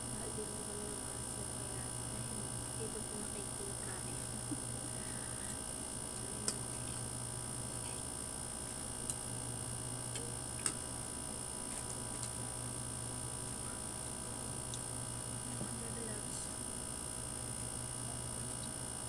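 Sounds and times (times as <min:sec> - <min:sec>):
electrical hum and hiss: 0:00.0 - 0:19.0.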